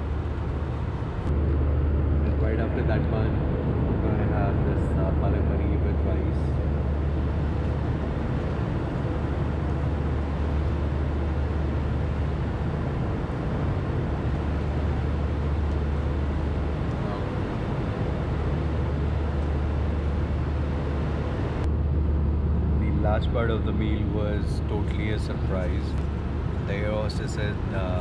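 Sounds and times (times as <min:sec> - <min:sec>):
jet airliner cabin drone: 0:00.0 - 0:28.0.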